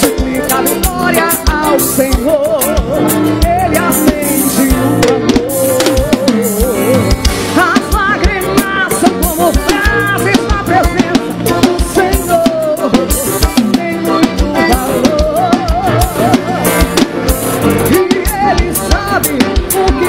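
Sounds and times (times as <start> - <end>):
drum kit beat: 0.0 - 20.0
gospel band music: 0.0 - 20.0.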